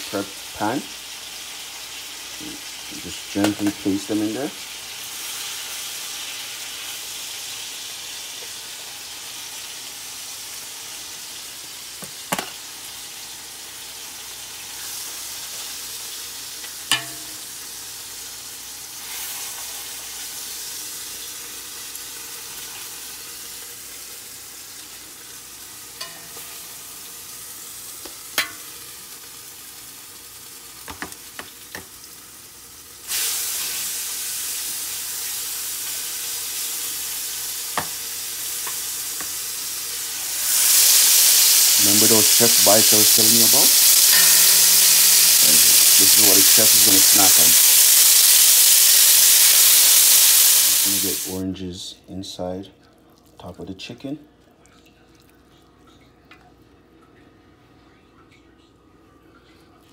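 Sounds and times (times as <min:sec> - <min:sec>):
hot oil sizzling in a pan: 0:00.0 - 0:51.6.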